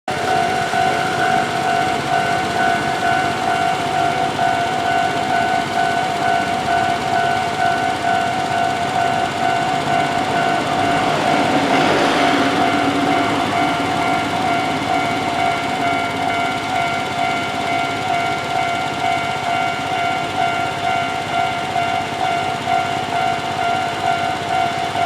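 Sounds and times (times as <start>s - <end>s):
diesel railcar approaching: 0.1s - 25.0s
level-crossing warning bell: 0.1s - 25.0s.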